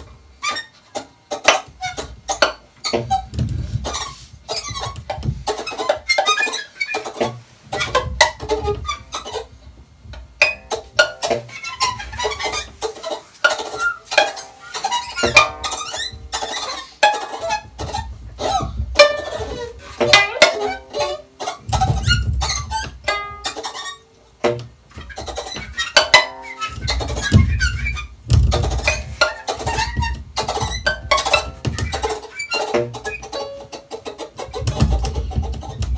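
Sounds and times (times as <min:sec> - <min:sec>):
instruments clicking and clattering: 0:00.0 - 0:35.9.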